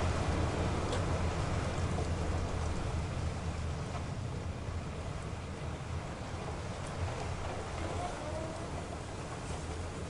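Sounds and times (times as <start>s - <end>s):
rain on a car: 0.0s - 10.0s
tyres rumbling on wet road: 0.0s - 10.0s.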